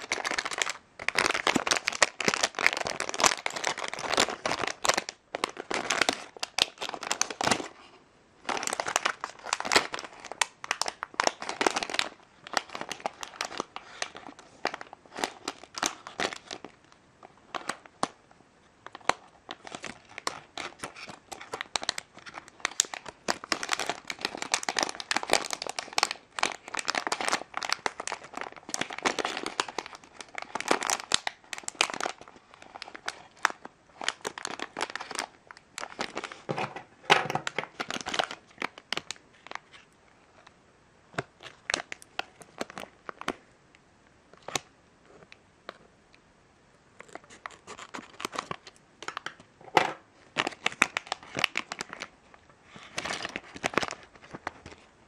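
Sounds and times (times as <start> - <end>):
foil packet crinkling: 0.0 - 18.2, 18.8 - 39.9, 41.2 - 43.4, 47.0 - 49.4, 50.2 - 54.9.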